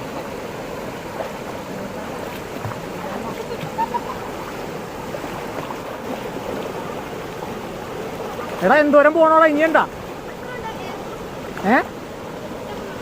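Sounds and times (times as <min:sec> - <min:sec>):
stream water pouring over rocks: 0:00.0 - 0:13.0.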